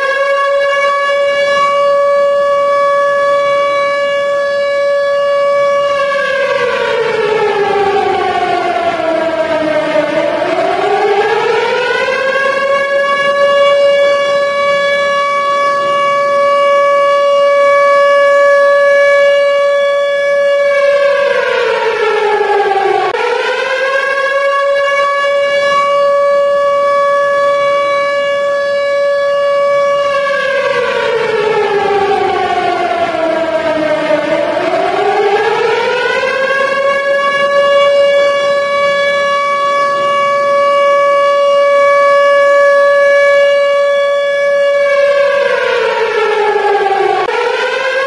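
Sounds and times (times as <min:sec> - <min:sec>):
civil defence siren wailing: 0:00.0 - 0:48.0.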